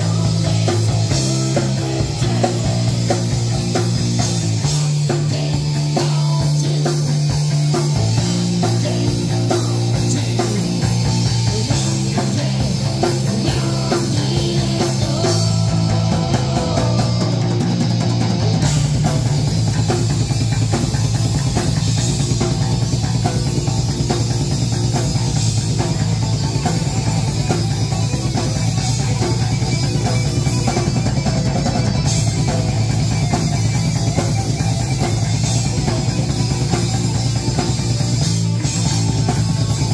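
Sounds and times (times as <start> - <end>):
bass guitar low notes: 0.0 - 39.9
electric guitar: 0.0 - 39.9.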